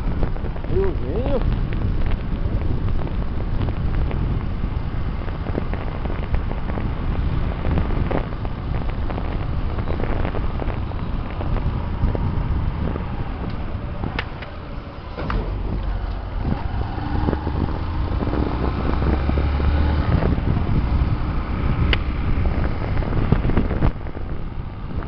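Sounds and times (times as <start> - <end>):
road noise: 0.0 - 25.0
wind buffeting microphone: 0.0 - 25.0
motorcycle engine: 1.6 - 25.0.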